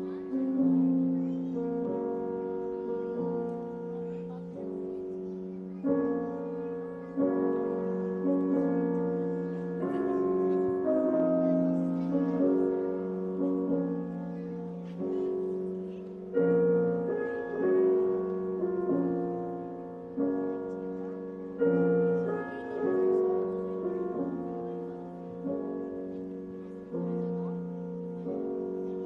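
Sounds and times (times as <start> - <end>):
slow piano chords: 0.0 - 29.0.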